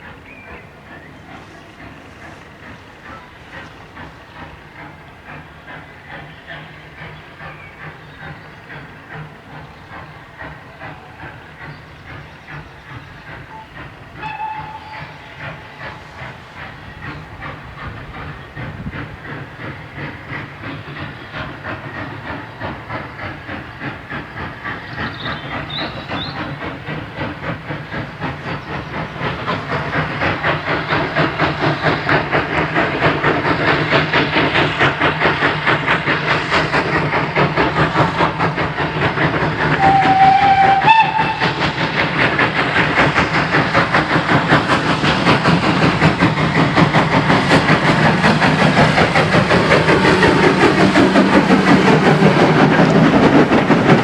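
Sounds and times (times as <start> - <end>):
steam locomotive exhaust beating: 0.0 - 54.0.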